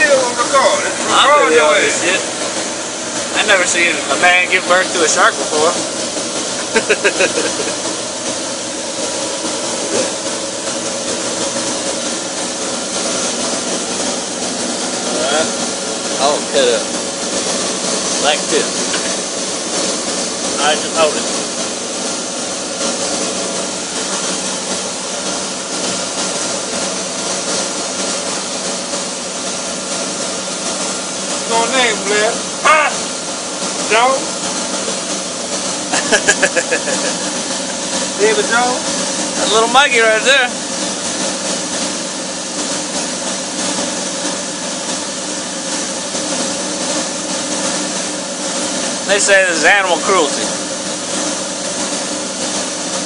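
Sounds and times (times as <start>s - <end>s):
boat engine droning: 0.0s - 53.0s.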